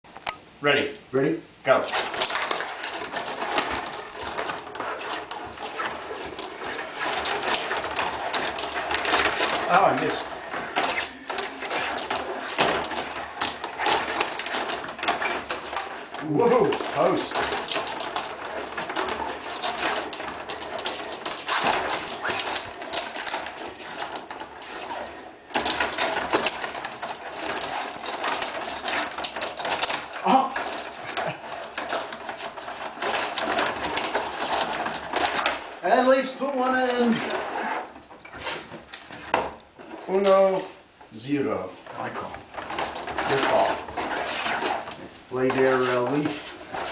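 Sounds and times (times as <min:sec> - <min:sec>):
control rods clattering: 0:01.8 - 0:46.9
plastic players knocking puck: 0:01.9 - 0:40.8, 0:41.9 - 0:46.9.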